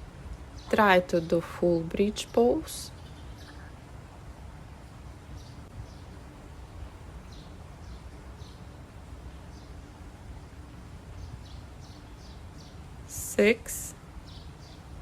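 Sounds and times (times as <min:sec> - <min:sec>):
small birds chirping: 0:00.0 - 0:03.9, 0:04.8 - 0:15.0.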